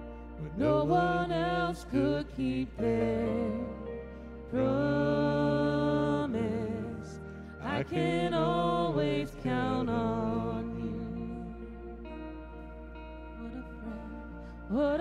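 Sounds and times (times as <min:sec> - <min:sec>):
keyboard and guitars: 0:00.0 - 0:15.0
voices singing: 0:00.0 - 0:15.0.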